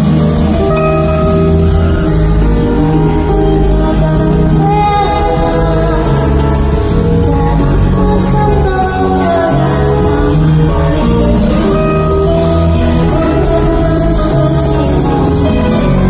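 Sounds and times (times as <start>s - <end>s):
female singer's vocal: 0.0s - 16.0s
live band accompaniment: 0.0s - 16.0s.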